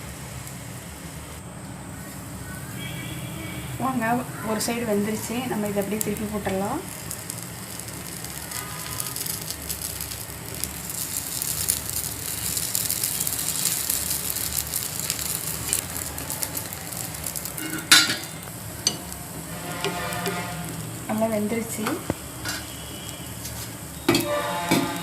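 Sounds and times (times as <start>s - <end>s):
batter sizzling in oil: 0.0s - 25.0s.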